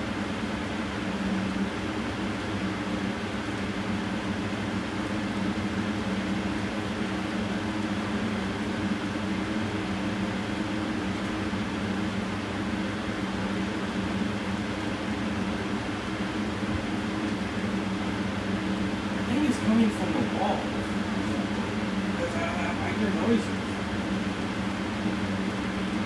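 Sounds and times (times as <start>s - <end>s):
mechanical hum and hiss: 0.0s - 26.0s.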